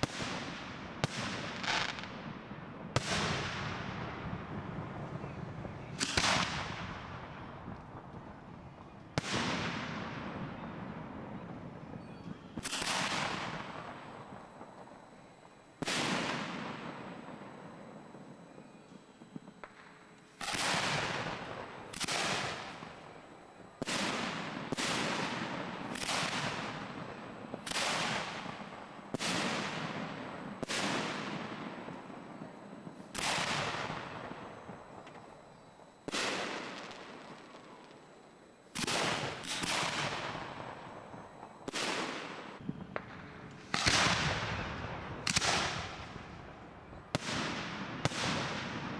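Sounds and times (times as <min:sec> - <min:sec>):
firework booms with echo: 0:02.9 - 0:08.4, 0:09.2 - 0:35.4, 0:38.7 - 0:46.5, 0:47.1 - 0:48.9.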